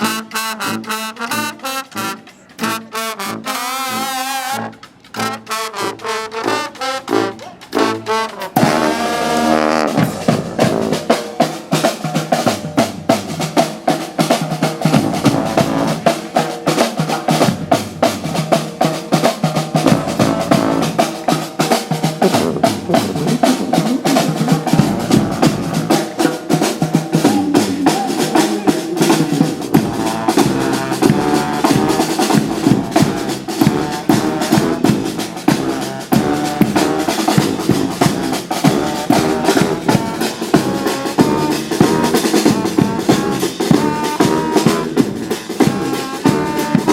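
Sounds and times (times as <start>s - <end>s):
brass horns playing: 0.0s - 46.9s
snare and bass drums: 0.0s - 46.9s.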